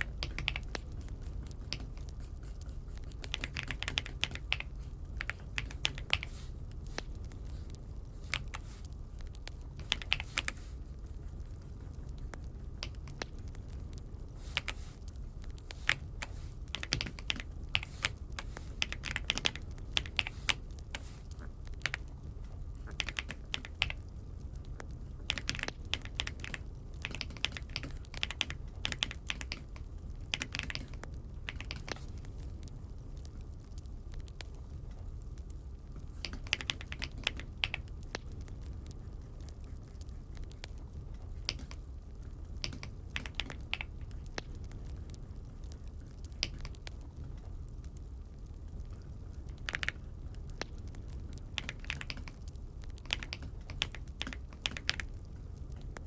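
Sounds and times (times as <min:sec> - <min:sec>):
mechanical keyboard typing: 0:00.0 - 0:10.7, 0:12.0 - 0:22.2, 0:22.8 - 0:24.1, 0:24.7 - 0:32.4, 0:36.2 - 0:41.8, 0:42.5 - 0:44.8, 0:45.6 - 0:47.3, 0:48.9 - 0:56.0
steady low hum: 0:00.0 - 0:56.0.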